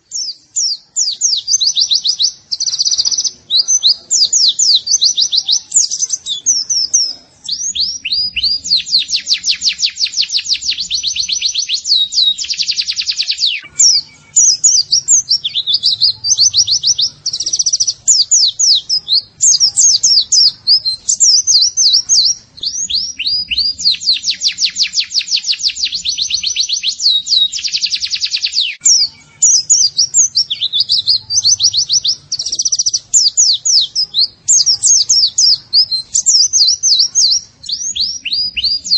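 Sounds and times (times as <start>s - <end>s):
bird twittering and trilling: 0.0s - 38.9s.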